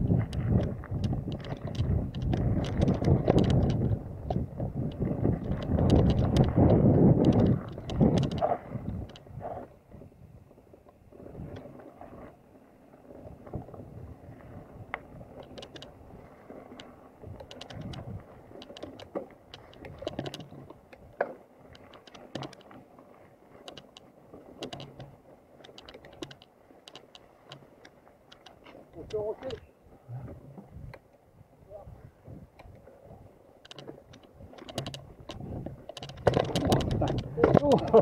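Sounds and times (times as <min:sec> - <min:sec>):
bike clicks and rattles: 0:00.0 - 0:31.2, 0:32.2 - 0:38.0
bike tyres rumbling on dirt: 0:00.0 - 0:38.0.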